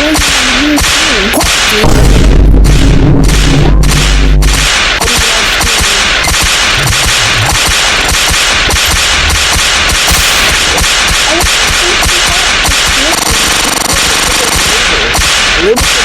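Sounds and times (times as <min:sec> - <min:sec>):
rapid sharp bangs and cracks: 0:00.0 - 0:16.0.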